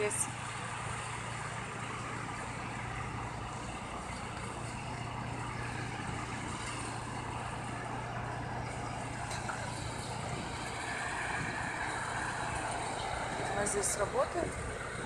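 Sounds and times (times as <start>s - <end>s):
diesel machinery engines humming: 0.0s - 15.0s.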